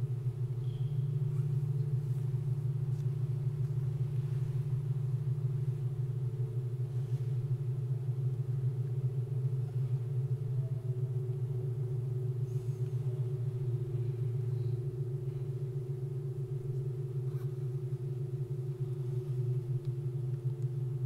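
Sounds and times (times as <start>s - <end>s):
pipe organ low tone cluster: 0.0s - 21.0s.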